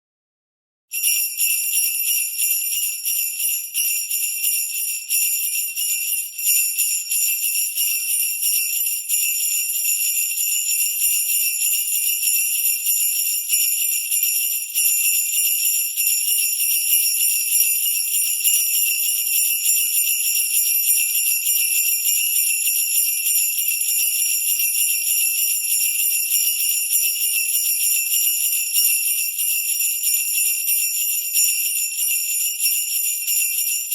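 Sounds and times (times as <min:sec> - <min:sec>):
sleigh bells jingling: 0:00.9 - 0:33.9.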